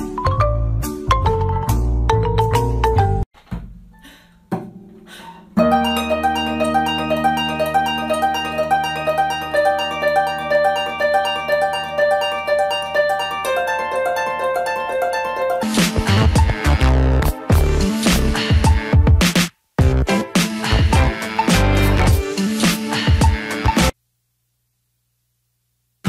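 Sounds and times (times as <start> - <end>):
music of rapid plucked notes: 0.0 - 3.3, 4.6 - 19.2, 19.8 - 24.0.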